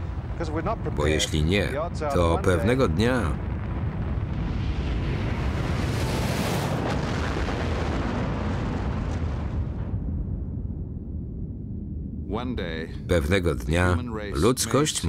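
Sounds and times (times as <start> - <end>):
explosion rumble: 0.0 - 13.7.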